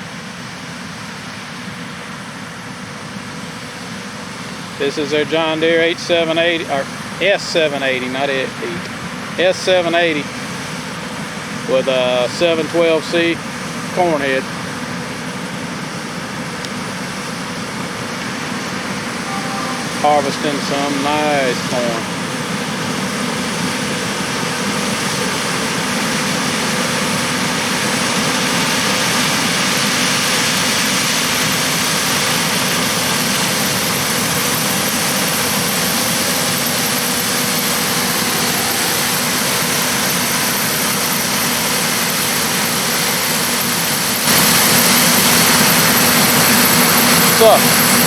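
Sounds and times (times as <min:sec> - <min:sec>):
combine harvester engine drone: 0:00.0 - 0:48.0.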